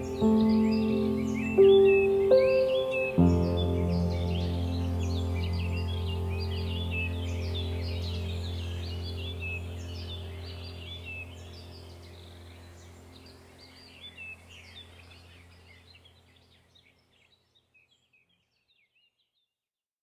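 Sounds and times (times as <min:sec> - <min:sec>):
ambient music drone: 0:00.0 - 0:16.1
birds chirping and trilling: 0:00.0 - 0:19.5.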